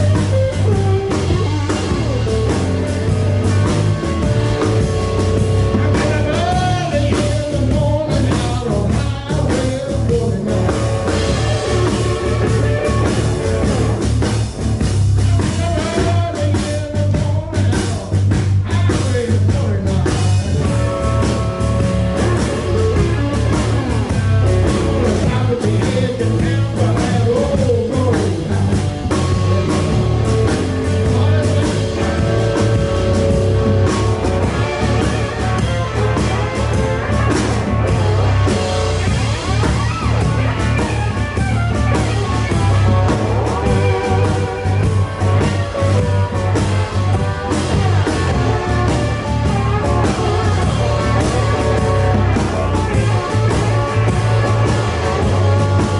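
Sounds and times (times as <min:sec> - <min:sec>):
bass line: 0:00.0 - 0:55.9
drums: 0:00.0 - 0:55.9
electric guitar: 0:00.0 - 0:55.9.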